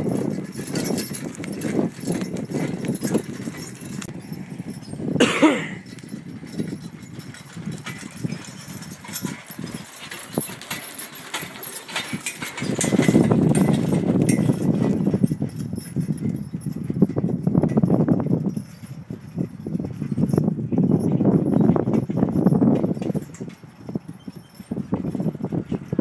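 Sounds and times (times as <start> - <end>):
harness and wagon rattle: 0.0 - 26.0
horse hoofbeats: 0.0 - 26.0.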